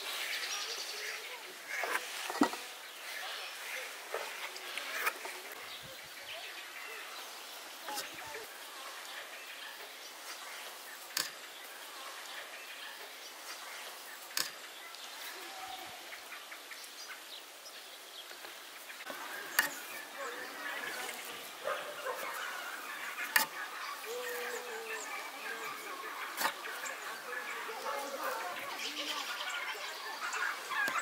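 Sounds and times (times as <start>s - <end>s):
distant bird calls: 0.0s - 31.0s.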